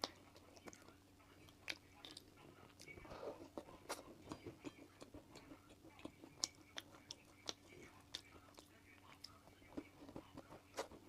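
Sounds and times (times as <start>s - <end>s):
chewing and mouth sounds: 0.0s - 11.0s.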